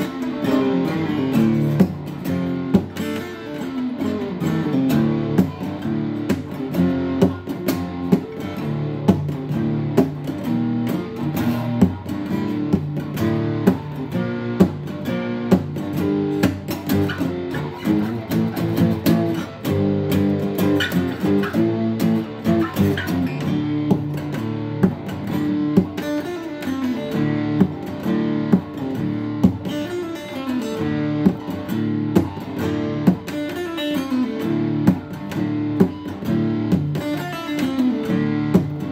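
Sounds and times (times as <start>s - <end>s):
acoustic guitar playing: 0.0s - 38.9s.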